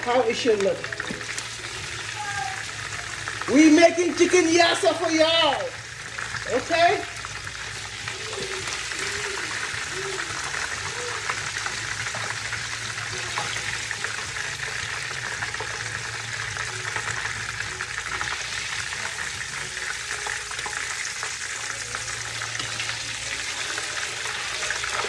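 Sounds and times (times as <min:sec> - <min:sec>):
oil sizzling in a frying pan: 0:00.0 - 0:25.0.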